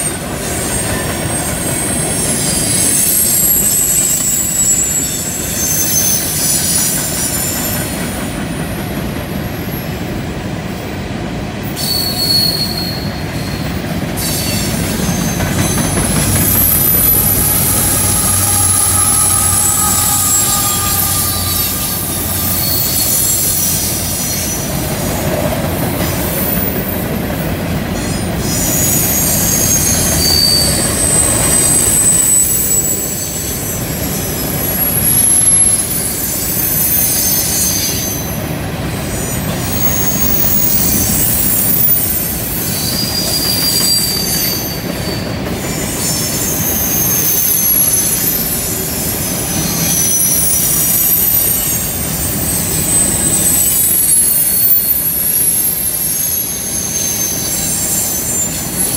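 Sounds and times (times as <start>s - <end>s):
train wheels rumbling on rail: 0.0s - 58.9s
high-pitched wheel squeal: 0.5s - 8.2s, 11.8s - 25.2s, 28.0s - 38.5s, 39.1s - 58.9s.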